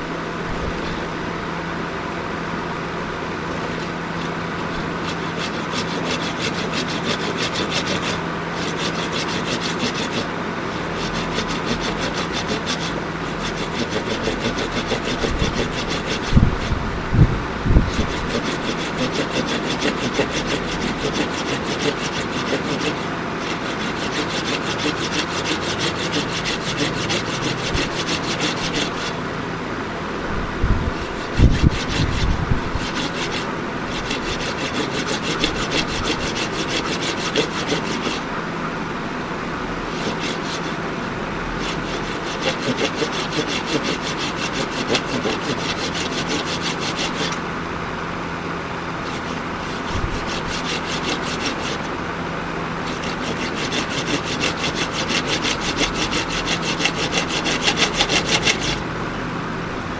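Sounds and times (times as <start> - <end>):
steady low hum: 0.0 - 59.9
hand tool rubbing wood: 0.5 - 1.2, 3.5 - 16.9, 17.7 - 29.2, 31.0 - 38.4, 39.9 - 40.9, 41.5 - 47.5, 49.0 - 52.1, 52.8 - 59.2.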